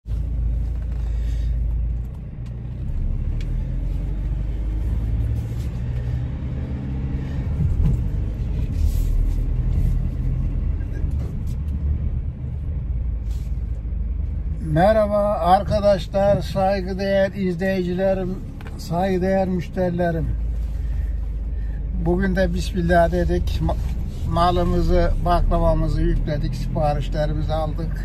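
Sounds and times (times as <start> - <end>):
van engine low rumble: 0.0 - 28.0.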